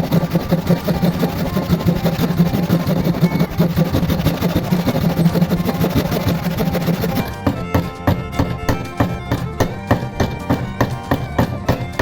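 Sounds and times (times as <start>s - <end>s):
music with even beat: 0.0s - 12.0s
power tool motor running: 0.0s - 12.0s.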